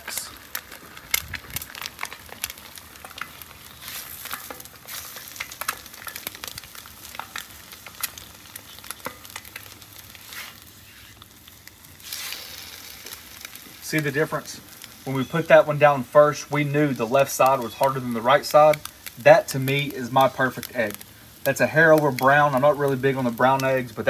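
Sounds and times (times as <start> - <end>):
eggs sizzling on a griddle: 0.0 - 24.0.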